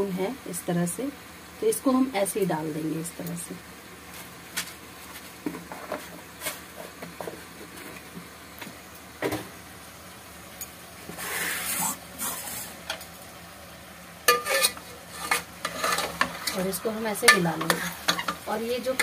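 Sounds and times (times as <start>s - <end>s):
chicken frying in a pot: 0.0s - 19.0s.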